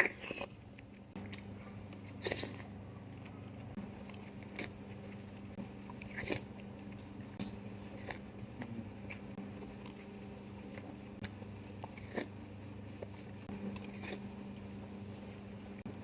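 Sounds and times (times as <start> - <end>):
wet eating clicks: 0.0 - 14.8
chewing food: 0.0 - 16.0
steady low hum: 0.0 - 16.0.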